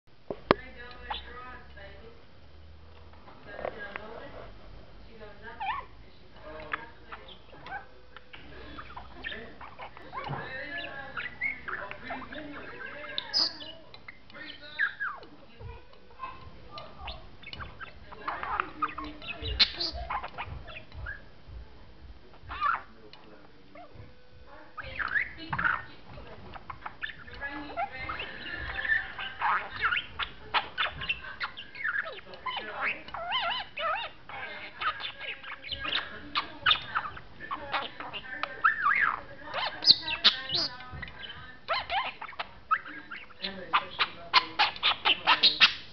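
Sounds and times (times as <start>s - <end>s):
budgerigar chattering: 1.0s - 1.4s, 5.5s - 15.3s, 16.2s - 21.3s, 22.4s - 23.0s, 24.8s - 45.9s.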